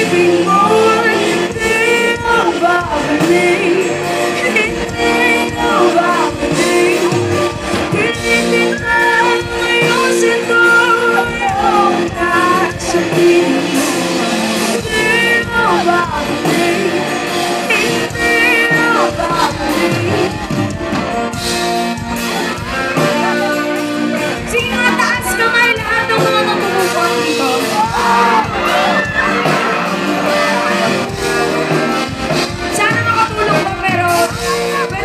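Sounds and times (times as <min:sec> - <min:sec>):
woman singing: 0:00.0 - 0:21.0, 0:22.5 - 0:35.0
guitar: 0:00.0 - 0:35.0
live band playing: 0:00.0 - 0:35.0.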